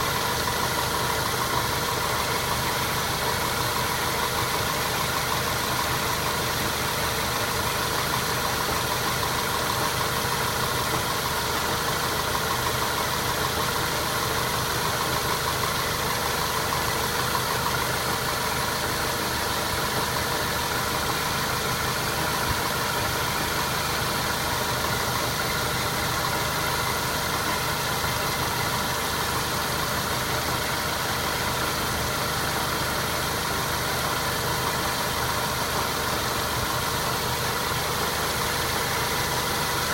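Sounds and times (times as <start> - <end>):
car running steadily: 0.0 - 39.9.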